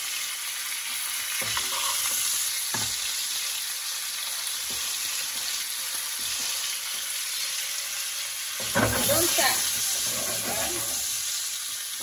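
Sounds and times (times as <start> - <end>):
steaks sizzling in a frying pan: 0.0 - 12.0.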